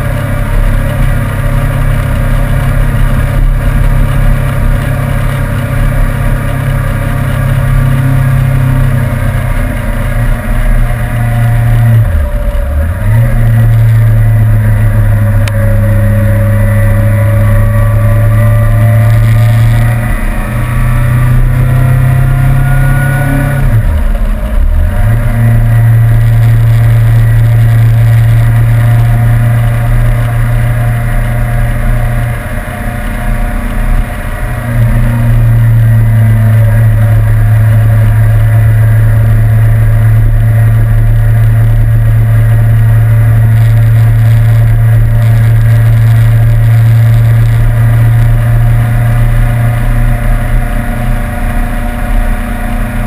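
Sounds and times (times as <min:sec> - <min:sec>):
motorcycle engine at speed: 0:00.0 - 0:53.0.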